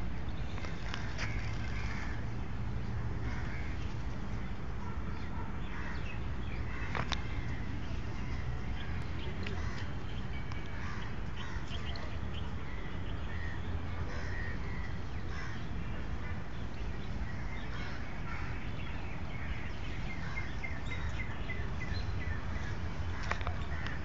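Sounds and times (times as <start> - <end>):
low background noise: 0.0 - 24.0.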